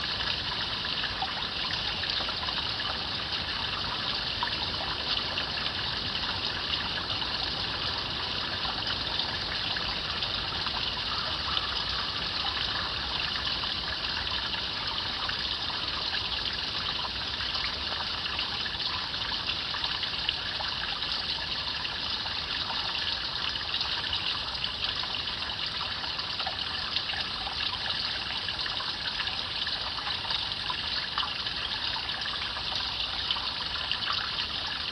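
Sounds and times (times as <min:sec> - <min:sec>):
stream babbling over stones: 0:00.0 - 0:34.9.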